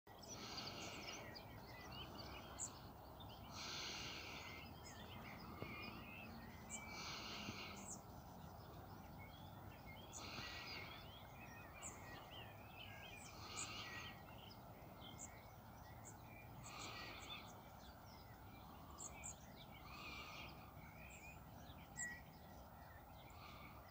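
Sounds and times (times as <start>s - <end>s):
birds chirping and singing: 0.1s - 23.9s
low steady background noise: 0.1s - 23.9s.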